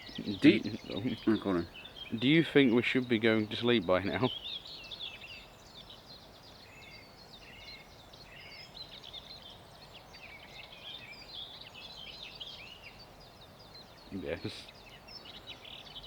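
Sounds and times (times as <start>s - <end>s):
faint background hiss: 0.0s - 16.0s
small birds singing: 0.0s - 16.0s.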